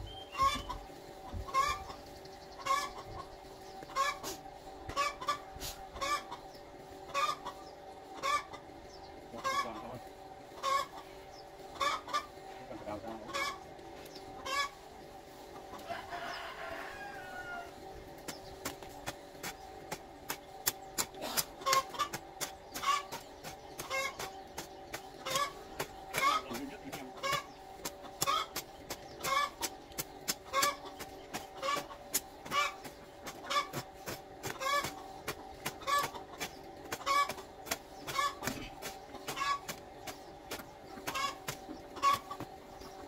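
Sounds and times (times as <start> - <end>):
chicken clucking: 0.0 - 43.0
faint steady hum: 0.0 - 43.0.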